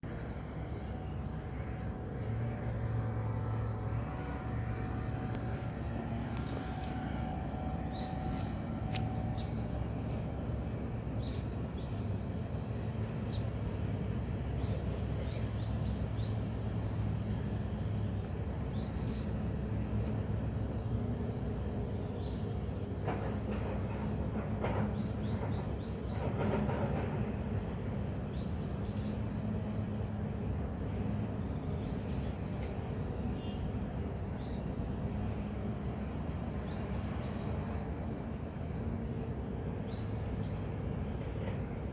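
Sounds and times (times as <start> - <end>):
insects chirping: 0.0 - 41.9
low background hum: 0.0 - 41.9.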